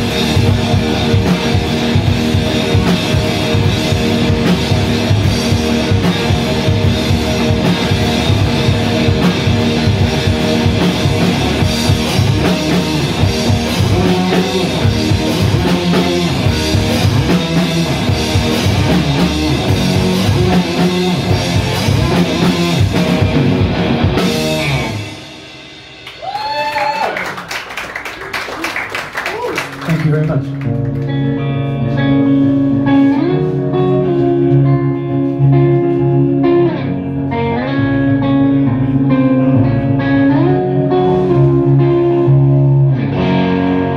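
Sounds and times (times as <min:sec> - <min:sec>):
drum kit: 0:00.0 - 0:39.1, 0:39.8 - 0:43.9
electric guitar: 0:00.0 - 0:43.9.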